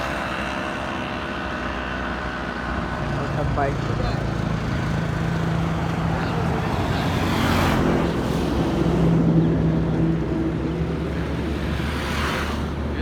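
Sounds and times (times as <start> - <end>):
wind and road rush: 0.0 - 13.0.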